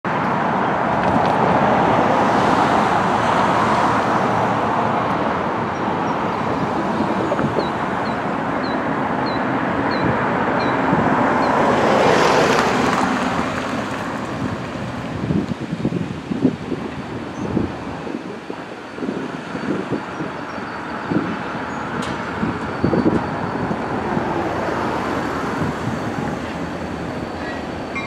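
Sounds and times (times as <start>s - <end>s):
road traffic passing: 0.0s - 28.0s
wind on microphone: 0.2s - 28.0s.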